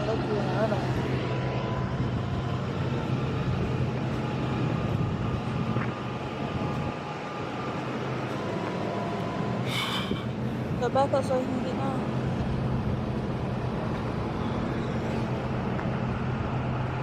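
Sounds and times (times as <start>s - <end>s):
vehicle engine hum and rumble: 0.0s - 17.0s.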